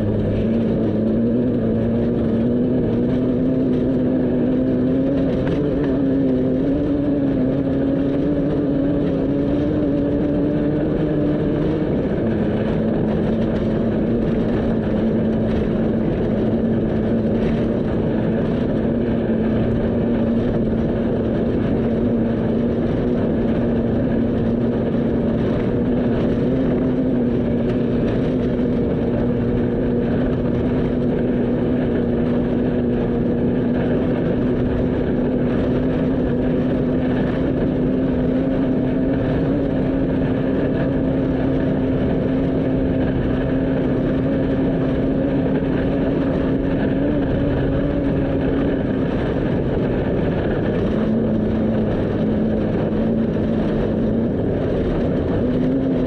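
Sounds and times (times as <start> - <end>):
road noise: 0.0 - 56.0
vehicle engine running: 0.0 - 56.0.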